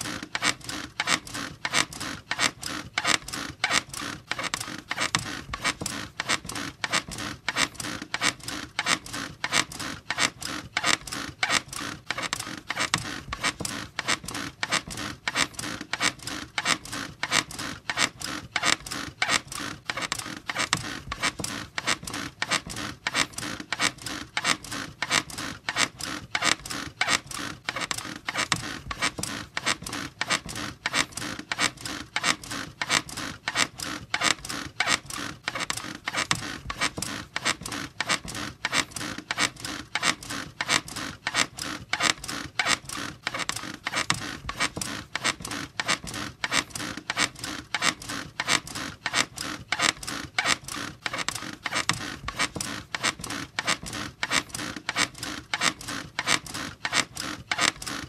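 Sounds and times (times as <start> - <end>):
squeaky bed creaking: 0.0 - 58.0.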